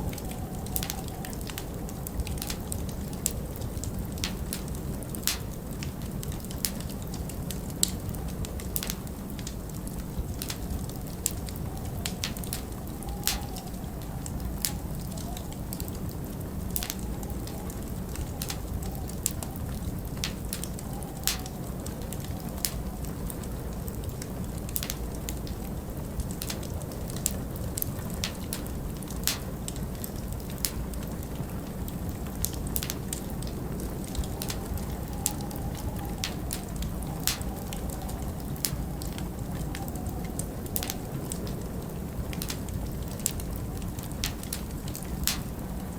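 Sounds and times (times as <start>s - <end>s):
storm wind rumbling and howling: 0.0s - 45.9s
wood fire crackling: 0.0s - 45.9s.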